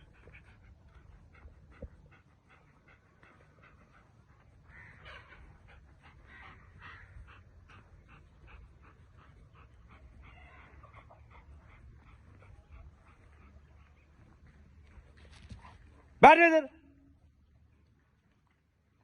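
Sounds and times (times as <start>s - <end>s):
dog panting: 0.0s - 16.2s.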